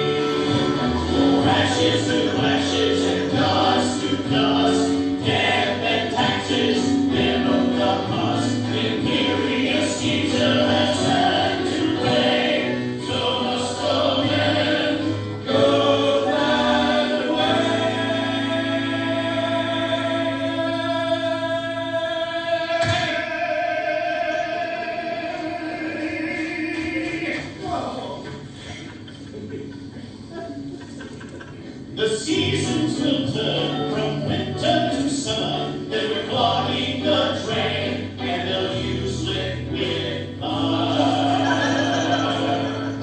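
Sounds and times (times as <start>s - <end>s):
singers holding note in harmony: 0.0s - 27.6s, 32.0s - 43.0s.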